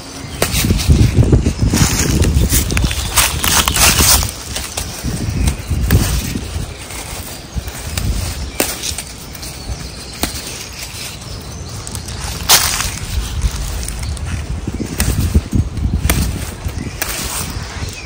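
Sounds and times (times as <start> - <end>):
wind rumble on microphone: 0.0 - 10.0, 11.2 - 18.0
plant stems rustling: 0.0 - 18.0.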